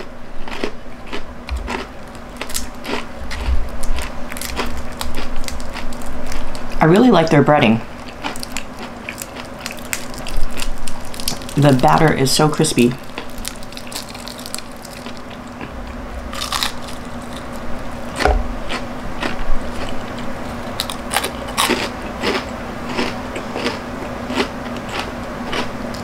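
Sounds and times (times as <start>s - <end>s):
chewing: 0.0s - 6.8s, 8.0s - 11.7s, 13.0s - 26.0s
fried chicken crunching: 0.0s - 7.1s, 8.0s - 26.0s.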